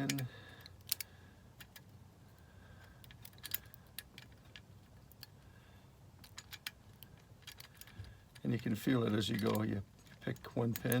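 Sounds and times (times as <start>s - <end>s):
small metallic clicks of a lock: 0.0s - 2.0s, 2.8s - 5.4s, 6.2s - 11.0s.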